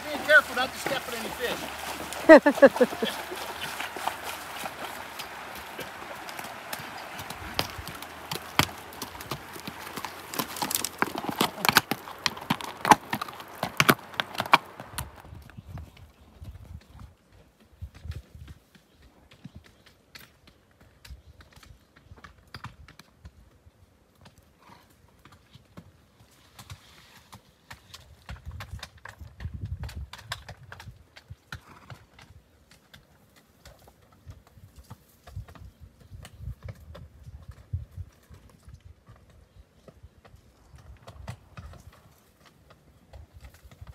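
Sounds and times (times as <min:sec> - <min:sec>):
horse hooves on stone: 0:00.0 - 0:43.9.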